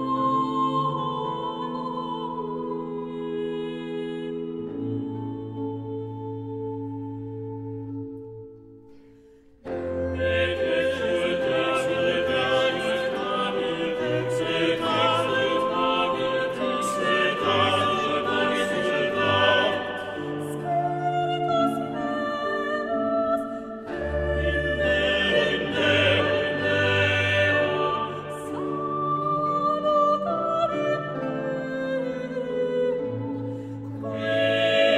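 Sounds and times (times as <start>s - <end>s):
operatic singing with orchestra: 0.0s - 8.2s, 9.6s - 34.9s.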